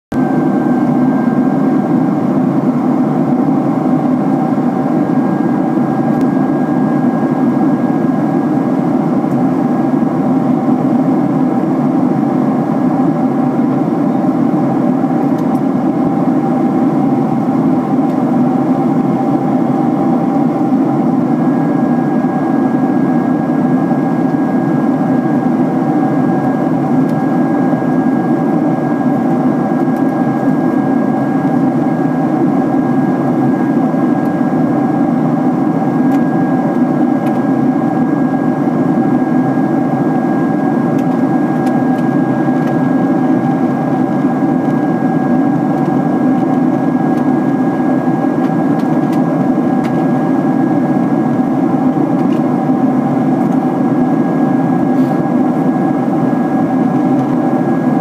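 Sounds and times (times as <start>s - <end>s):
thin high engine whine: 0.1s - 58.0s.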